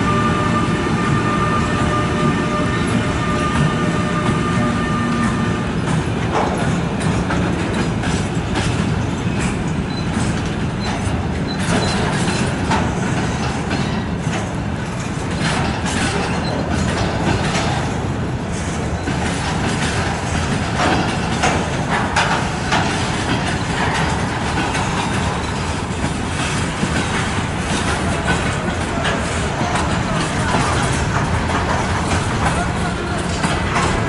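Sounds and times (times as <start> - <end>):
train wheels rumbling on rails: 0.0 - 34.0
clicks and knocks from track: 1.8 - 34.0.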